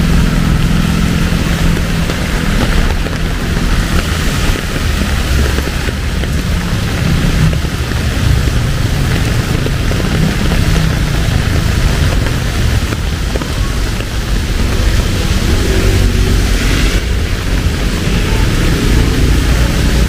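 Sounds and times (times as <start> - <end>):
heavy rain falling: 0.0 - 20.0
road traffic rumble: 0.0 - 20.0.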